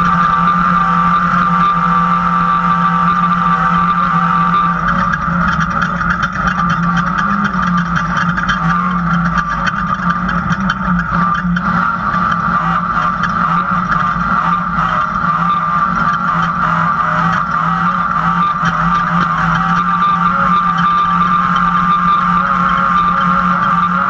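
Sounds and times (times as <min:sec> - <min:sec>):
race car engine running hard: 0:00.0 - 0:24.0
rattling and clatter: 0:00.0 - 0:24.0
steady high whine: 0:00.0 - 0:24.0.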